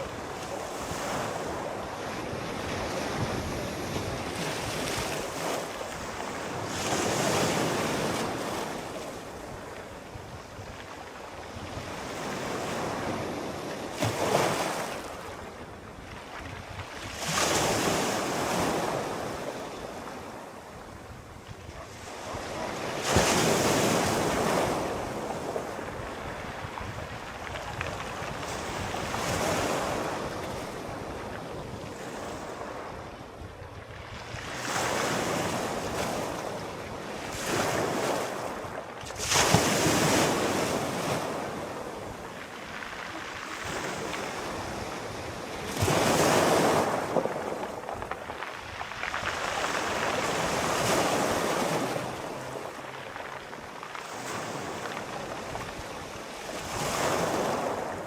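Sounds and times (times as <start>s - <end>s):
sea waves breaking ashore: 0.0s - 58.0s.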